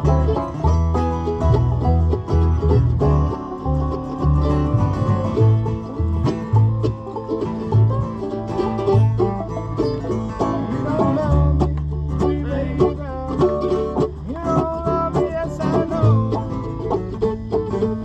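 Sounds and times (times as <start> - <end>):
banjo picking: 0.0 - 18.0
guitar: 0.0 - 18.0
low bass line: 0.0 - 18.0.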